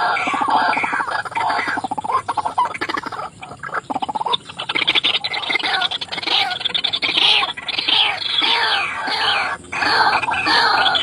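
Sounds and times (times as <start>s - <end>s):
bird croaking calls: 0.0s - 11.0s.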